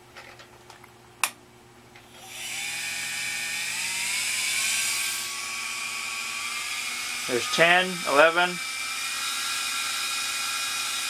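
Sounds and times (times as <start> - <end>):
fan motor whine: 1.2 - 11.0.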